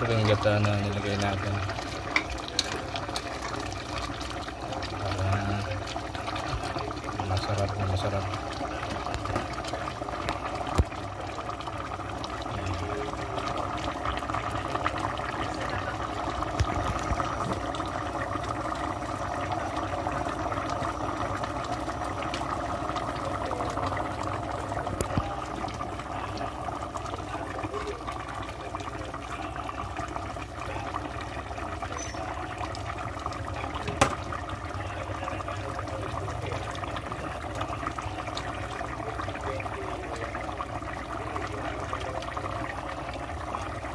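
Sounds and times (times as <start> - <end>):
stew bubbling in a pot: 0.0 - 43.9.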